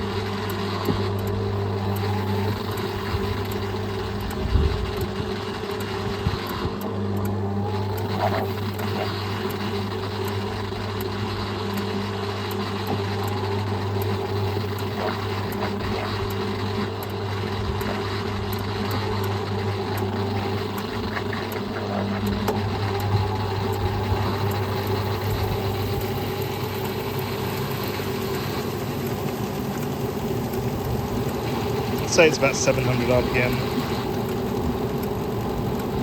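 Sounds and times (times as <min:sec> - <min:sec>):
washing machine motor hum: 0:00.0 - 0:36.0.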